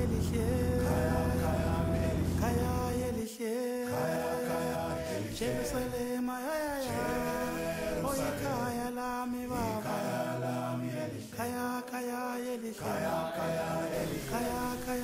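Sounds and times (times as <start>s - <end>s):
a cappella group singing: 0.0s - 15.0s.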